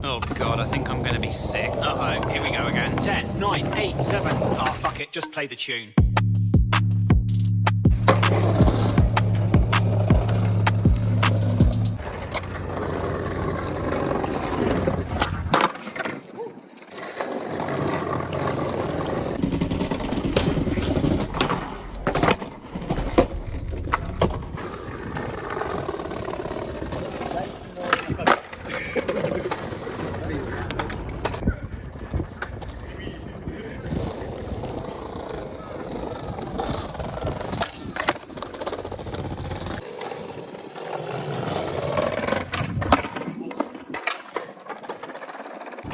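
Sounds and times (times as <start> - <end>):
skateboard clacks: 0.0 - 5.0, 7.9 - 45.9
skateboard wheels rolling on concrete: 0.0 - 5.0, 7.9 - 45.9.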